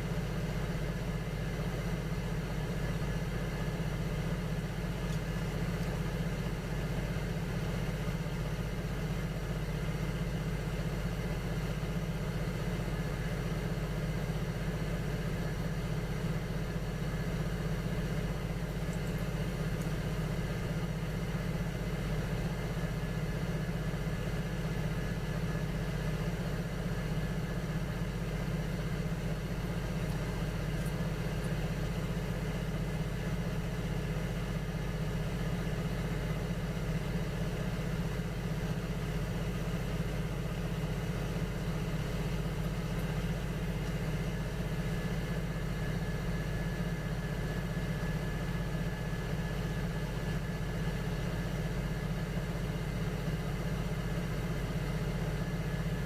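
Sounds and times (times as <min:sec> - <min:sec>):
potter's wheel motor humming: 0:11.0 - 0:56.0.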